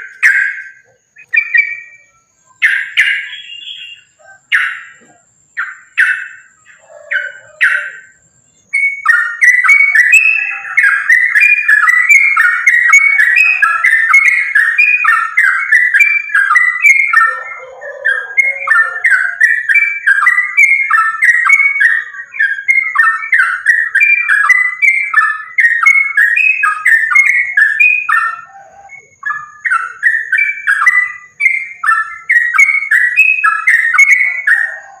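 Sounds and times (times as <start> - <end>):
bulbul singing rapid chatter: 0.0 - 35.0.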